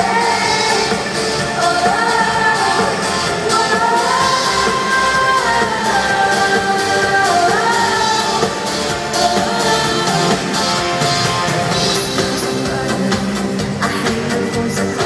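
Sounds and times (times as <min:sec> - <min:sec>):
female lead vocal singing: 0:00.0 - 0:15.0
live band backing: 0:00.0 - 0:15.0.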